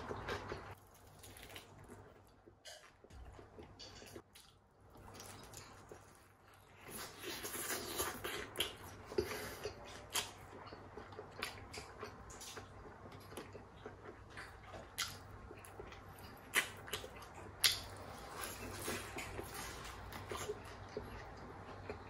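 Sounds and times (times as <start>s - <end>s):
chewing fried chicken: 0.0s - 22.0s.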